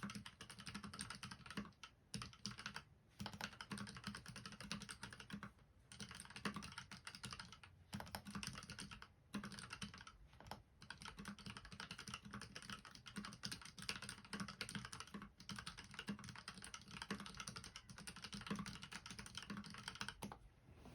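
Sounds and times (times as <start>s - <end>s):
mechanical keyboard typing: 0.0s - 20.4s.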